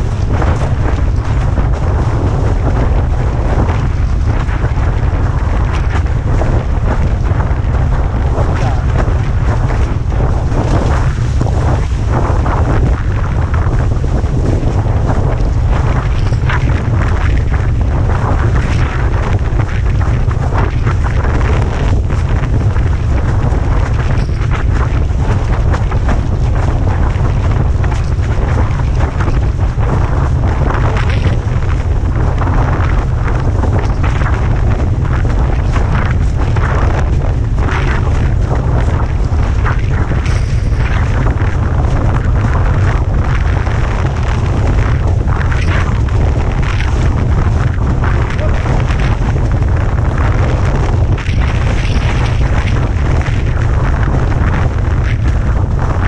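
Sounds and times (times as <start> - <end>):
water rushing and splashing: 0.0 - 56.0
wind buffeting microphone: 0.0 - 56.0.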